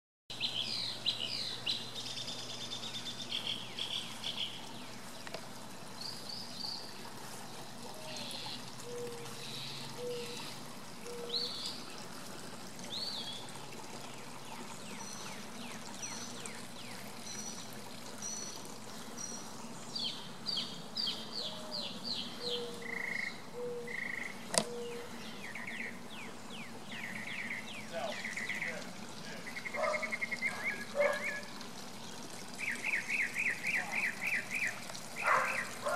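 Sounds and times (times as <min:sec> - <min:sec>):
birds singing: 0:00.3 - 0:35.9.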